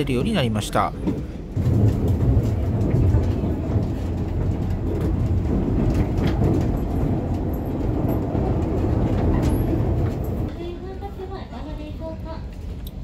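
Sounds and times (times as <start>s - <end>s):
railcar engine and wheels rumble: 0.0s - 13.0s.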